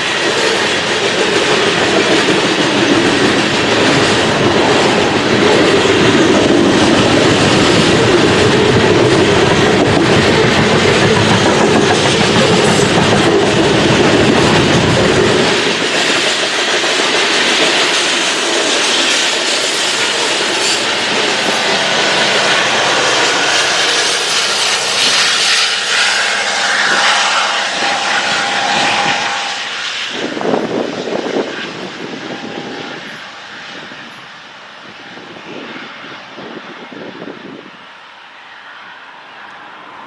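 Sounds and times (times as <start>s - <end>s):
train cars rumbling on rails: 0.0s - 40.0s.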